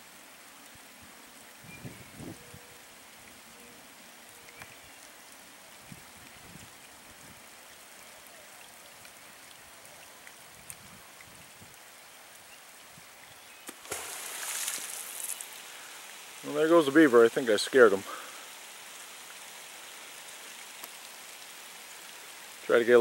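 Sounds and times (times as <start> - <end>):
light rain falling: 0.0 - 23.0
raindrops ticking: 3.0 - 13.9, 14.5 - 23.0.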